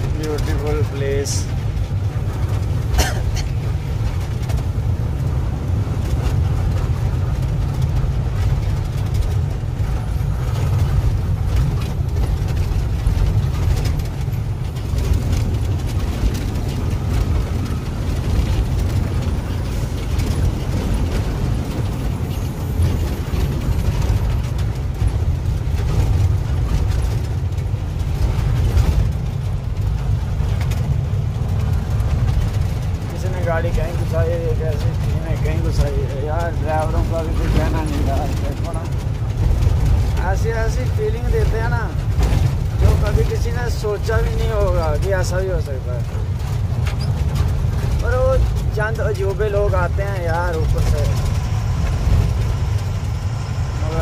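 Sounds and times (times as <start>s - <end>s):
road noise: 0.0s - 54.0s
truck engine rumble: 0.0s - 54.0s.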